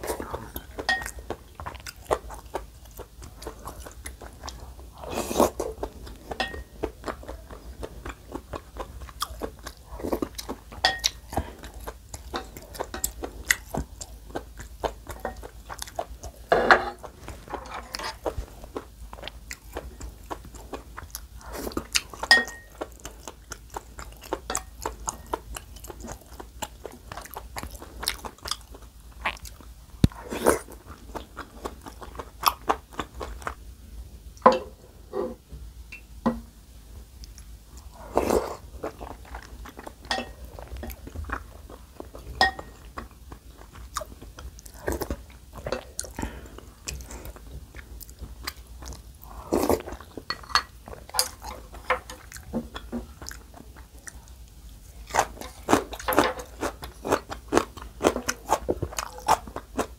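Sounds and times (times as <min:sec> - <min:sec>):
chewing and biting food: 0:00.0 - 0:33.6, 0:37.2 - 0:59.9.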